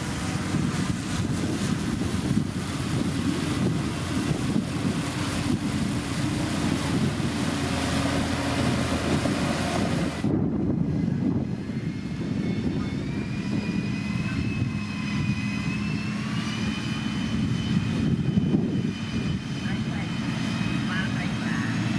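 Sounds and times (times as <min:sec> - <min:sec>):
heavy diesel engine running: 0:00.0 - 0:10.4, 0:13.6 - 0:21.9
wind buffeting microphone: 0:00.0 - 0:21.9.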